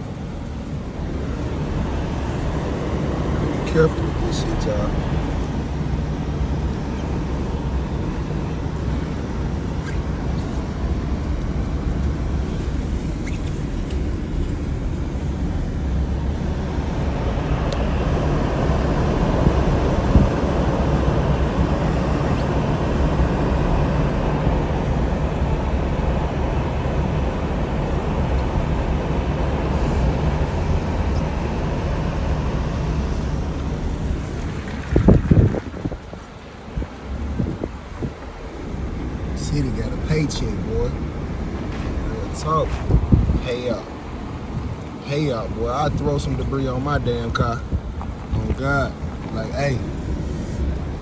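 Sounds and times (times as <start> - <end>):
car engine and road rumble: 0.0 - 51.0
tyre and wind hiss: 0.0 - 51.0.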